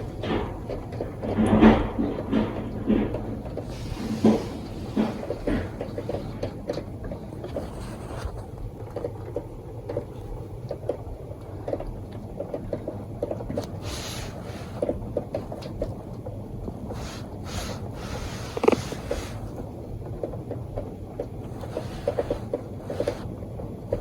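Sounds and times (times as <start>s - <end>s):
low steady rumble: 0.0s - 24.0s
rain drips and taps: 0.0s - 24.0s.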